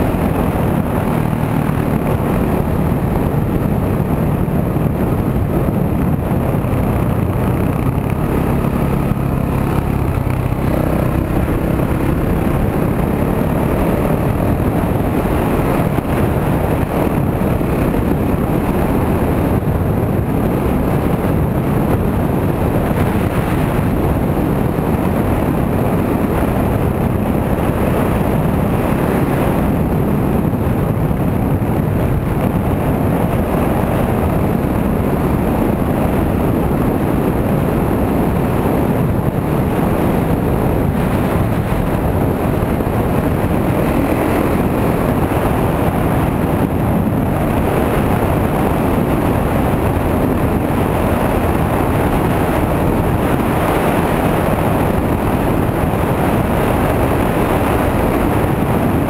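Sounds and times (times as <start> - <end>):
dirt bike engine running: 0.0 - 59.0
wind rushing over microphone: 0.0 - 59.0.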